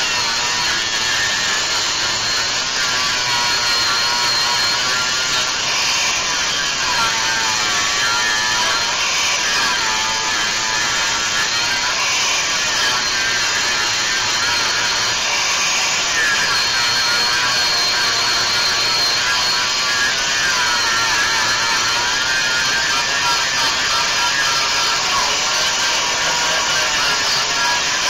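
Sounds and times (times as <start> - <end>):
angle grinder grinding steel: 0.0 - 28.0.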